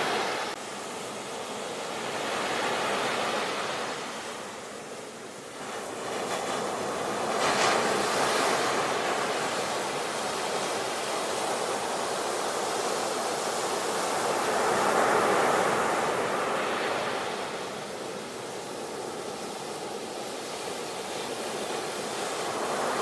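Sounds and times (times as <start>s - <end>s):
waves breaking on beach: 0.0s - 23.0s.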